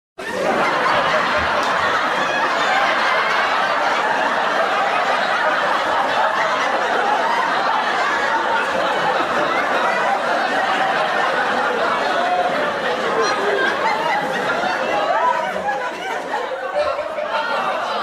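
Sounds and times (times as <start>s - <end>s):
crowd laughing: 0.2s - 18.0s.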